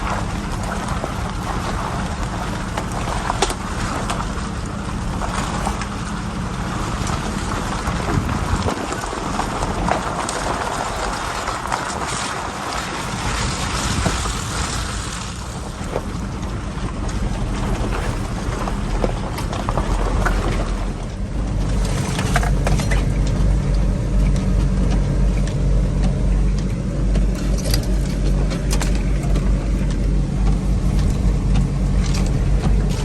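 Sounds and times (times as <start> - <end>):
pickup truck engine running: 0.0 - 33.0
truck knocks and rattles: 0.0 - 33.0.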